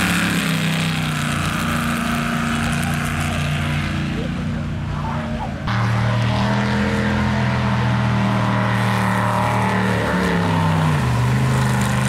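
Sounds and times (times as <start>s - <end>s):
boat engine at high revs: 0.0s - 12.0s.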